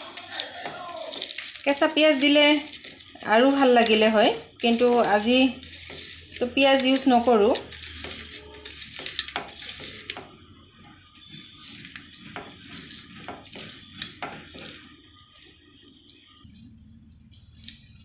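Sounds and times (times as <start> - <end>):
hand squishing food: 0.0 - 18.0.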